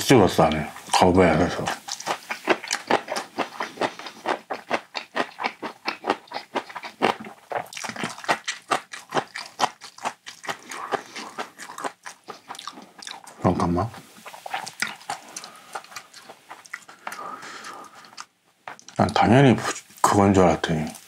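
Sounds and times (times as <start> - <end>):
mouth chewing wet smacks: 0.5 - 13.4, 14.2 - 19.8.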